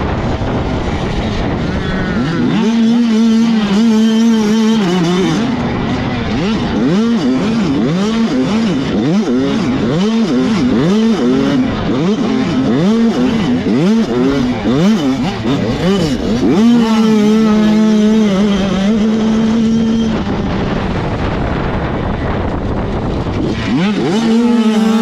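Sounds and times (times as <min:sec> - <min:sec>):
motocross bikes racing: 0:00.0 - 0:25.0.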